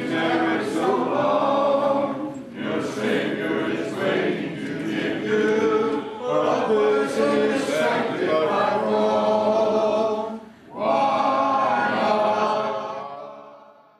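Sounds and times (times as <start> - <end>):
congregation singing a hymn: 0.0 - 13.9.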